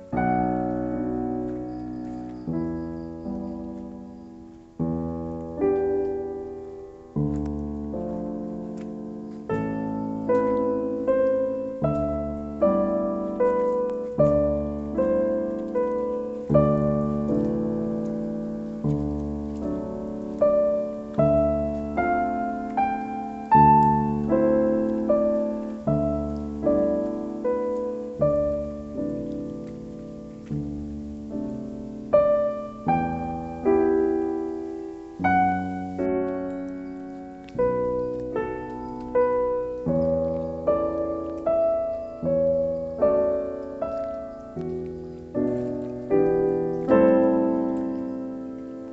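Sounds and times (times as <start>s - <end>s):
slow piano music: 0.0s - 48.9s.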